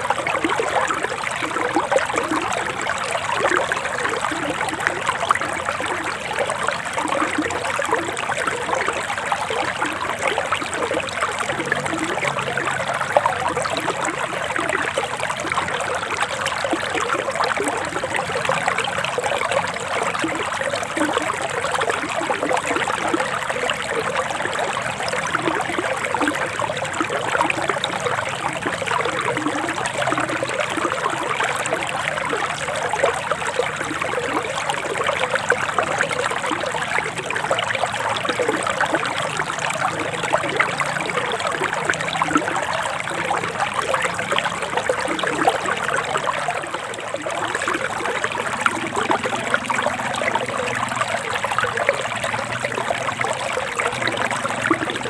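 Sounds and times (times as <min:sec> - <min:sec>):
river water babbling over stones: 0:00.0 - 0:55.0.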